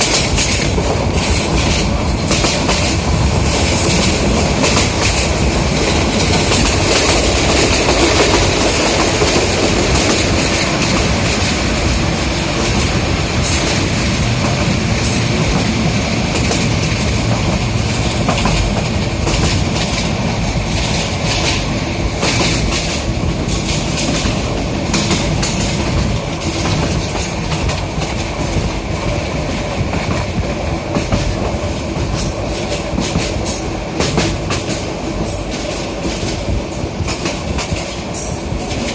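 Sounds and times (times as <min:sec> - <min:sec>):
train rumble and rattle: 0:00.0 - 0:38.9
wheels clacking over rails: 0:00.0 - 0:38.9.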